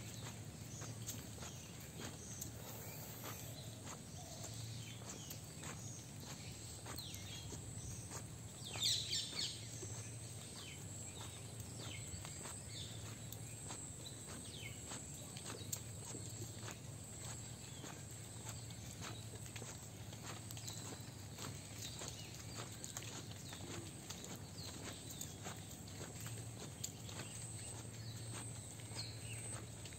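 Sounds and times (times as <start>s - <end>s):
footsteps on wet brick: 0.0s - 29.9s
small birds chirping: 0.0s - 29.9s.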